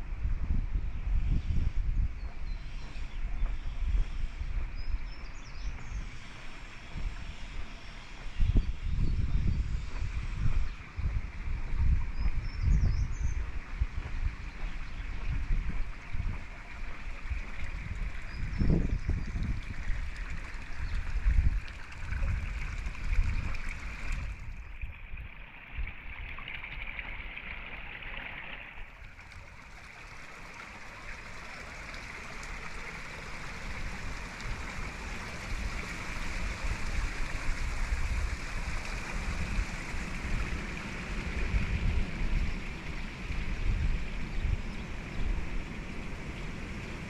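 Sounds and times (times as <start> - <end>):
wind gusting against microphone: 0.0 - 25.4, 29.0 - 47.0.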